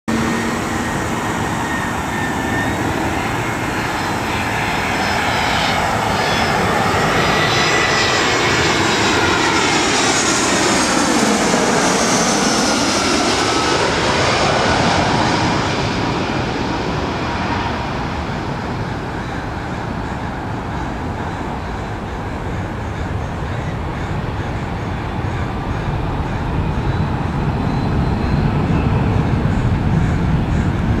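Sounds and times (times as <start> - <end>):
jet airliner passing overhead: 0.1 - 31.0.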